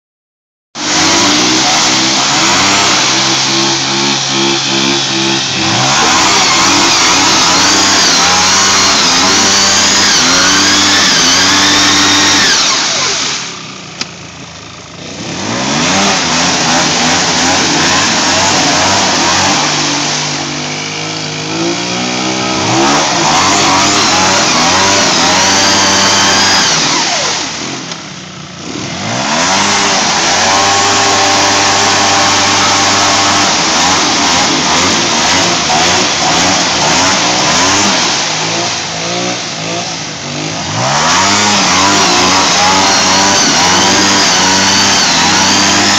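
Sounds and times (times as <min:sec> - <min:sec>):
quad bike engine revving: 0:00.8 - 0:45.9
wheels spinning through mud: 0:00.8 - 0:45.9.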